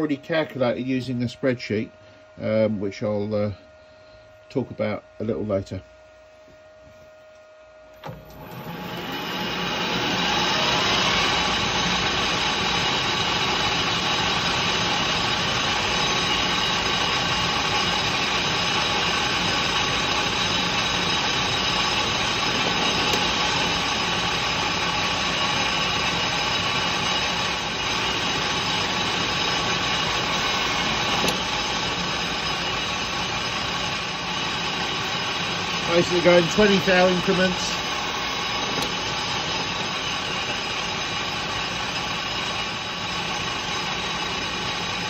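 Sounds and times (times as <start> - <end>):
metal lathe motor and gear whine: 8.0 - 45.0.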